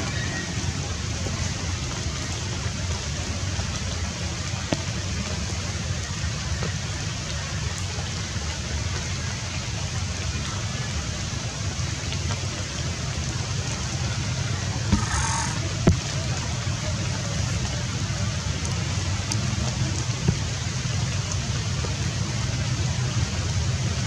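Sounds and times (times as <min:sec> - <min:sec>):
rain-like hiss: 0:00.0 - 0:24.0.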